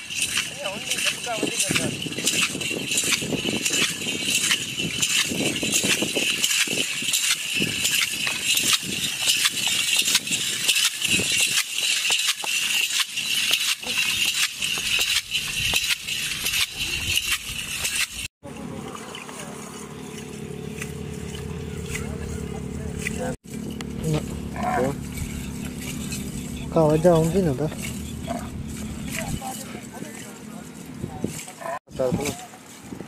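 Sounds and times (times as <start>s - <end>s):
harness bells jingling: 0.0s - 33.0s.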